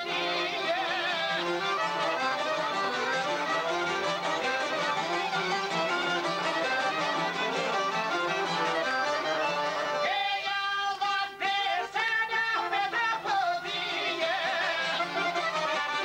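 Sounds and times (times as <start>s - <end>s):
folk music on long-necked lutes: 0.0s - 16.0s.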